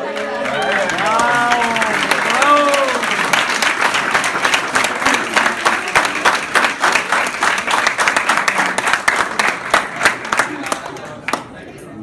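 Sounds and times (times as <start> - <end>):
crowd applauding: 0.0 - 11.6.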